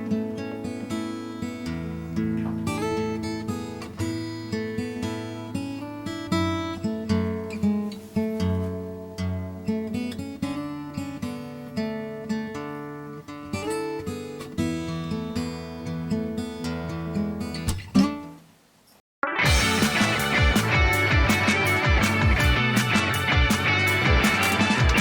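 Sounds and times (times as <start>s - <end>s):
acoustic guitar melody: 0.0s - 18.5s, 19.2s - 25.0s.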